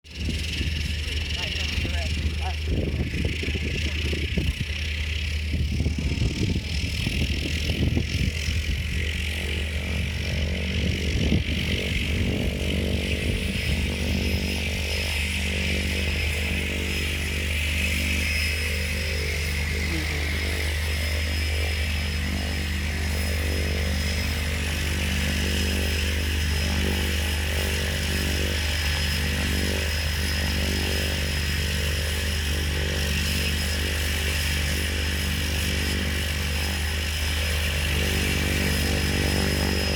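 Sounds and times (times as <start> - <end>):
high turbine whine: 0.0 - 39.9
propeller drone: 0.0 - 39.9.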